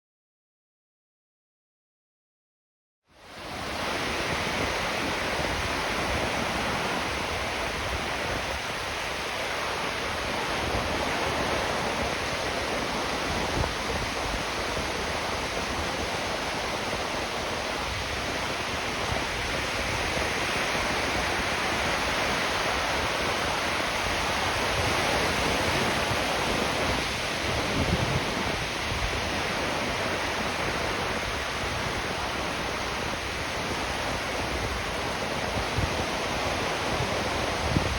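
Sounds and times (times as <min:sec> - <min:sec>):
ocean surf breaking: 0:03.3 - 0:37.9.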